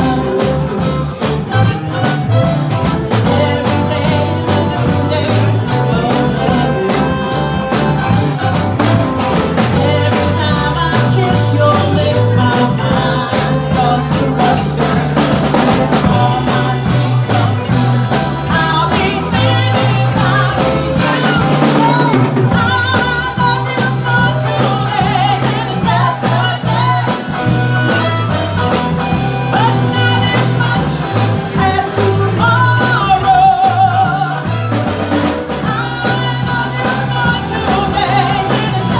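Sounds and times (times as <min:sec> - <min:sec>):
bass: 0:00.0 - 0:38.9
drum kit: 0:00.0 - 0:38.9
lead vocal singing: 0:00.0 - 0:38.9
live band playing pop-rock: 0:00.0 - 0:38.9.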